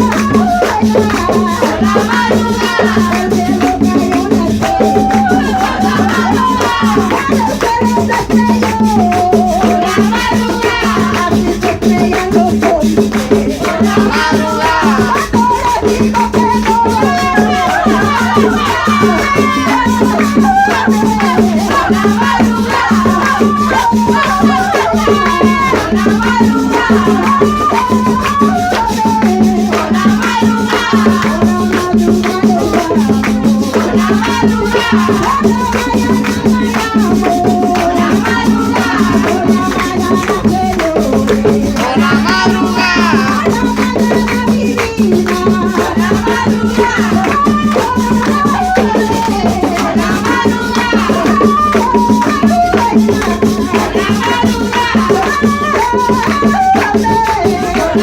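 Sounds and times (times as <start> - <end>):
shaken rattle percussion: 0.0 - 58.0.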